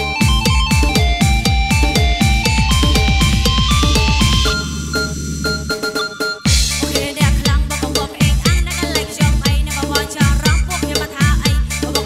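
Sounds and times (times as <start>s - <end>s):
heavy electronic bass kicks: 0.0s - 5.8s, 6.5s - 11.8s
electronic dance music: 0.0s - 12.0s.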